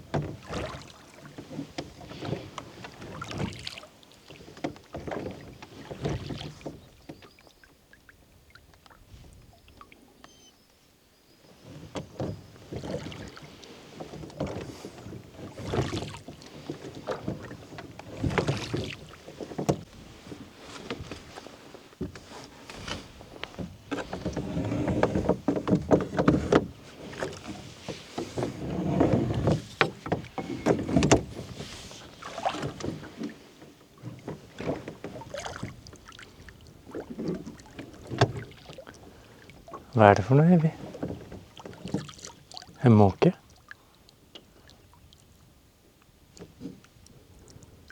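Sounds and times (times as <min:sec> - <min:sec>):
oars stroking through water: 0:00.0 - 0:47.9.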